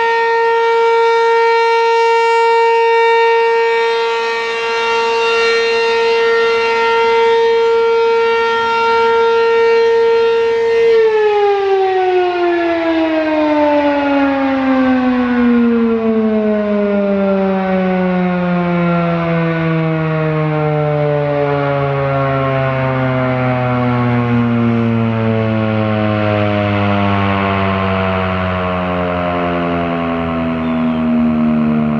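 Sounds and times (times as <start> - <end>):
mechanical warning siren: 0.0 - 31.9.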